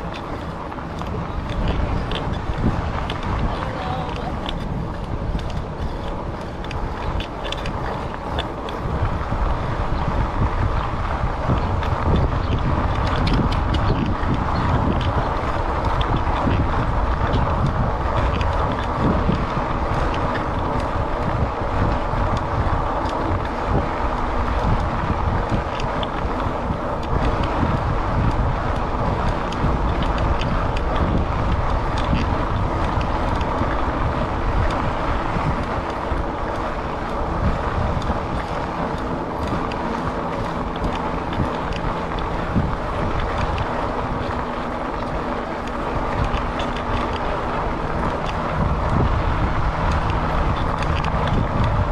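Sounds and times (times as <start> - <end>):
low rumble of tyres: 0.0 - 51.9
wind buffeting microphone: 0.0 - 51.9.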